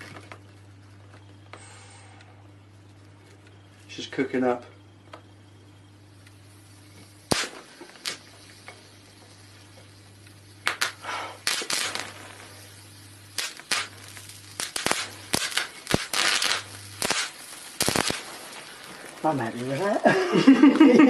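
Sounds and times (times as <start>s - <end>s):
electric arc crackling and popping: 0.0s - 21.0s
steady low hum: 0.0s - 21.0s.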